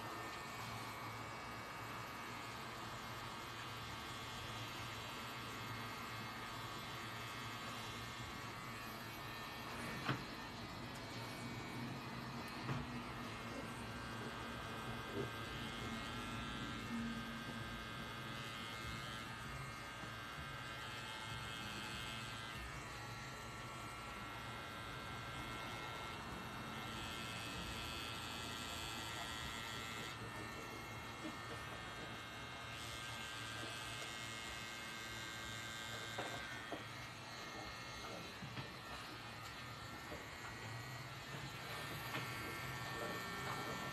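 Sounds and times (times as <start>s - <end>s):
tattoo machine buzzing: 0.0s - 43.9s.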